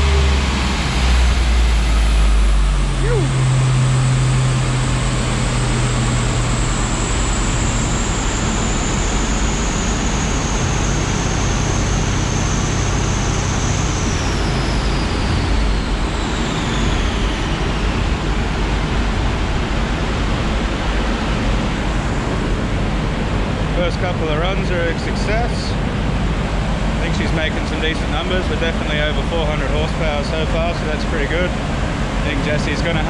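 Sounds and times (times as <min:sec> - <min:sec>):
car rushing with high whine: 0:00.0 - 0:33.0
low hum: 0:00.0 - 0:33.0.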